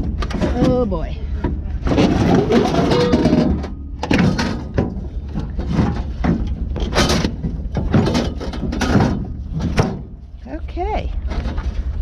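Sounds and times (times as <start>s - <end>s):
scrap metal clattering: 0.0s - 10.3s
steady low hum: 0.0s - 12.0s.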